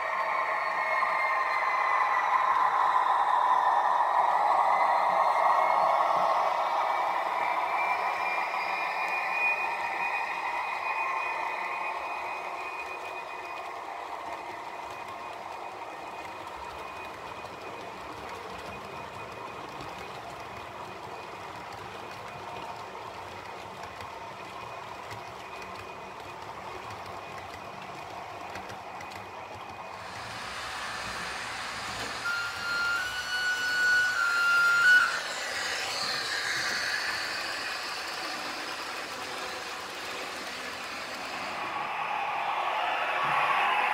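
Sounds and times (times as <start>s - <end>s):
model train wheels on rails: 0.0s - 43.9s.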